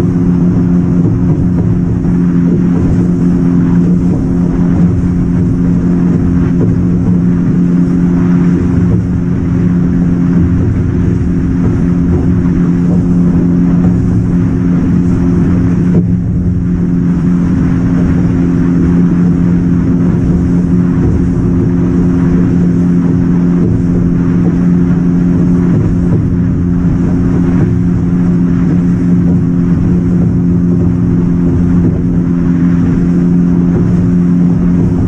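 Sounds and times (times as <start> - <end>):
boat engine droning: 0.0 - 35.0
wind and water rushing: 0.0 - 35.0.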